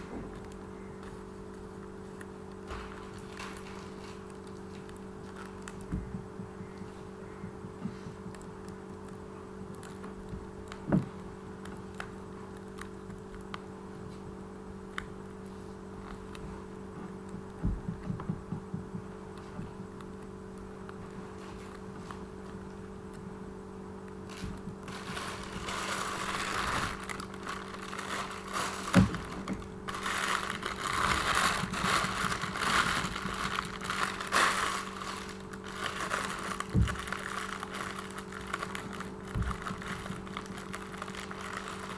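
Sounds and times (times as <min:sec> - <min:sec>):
rustling and scratching: 0:00.0 - 0:23.3, 0:24.1 - 0:41.9
steady low hum: 0:00.0 - 0:41.9.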